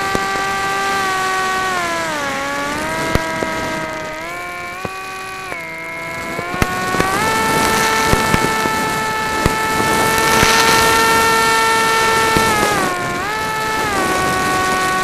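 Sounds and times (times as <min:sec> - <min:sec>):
fireworks popping: 0:00.0 - 0:15.0
model plane motor humming: 0:00.0 - 0:15.0.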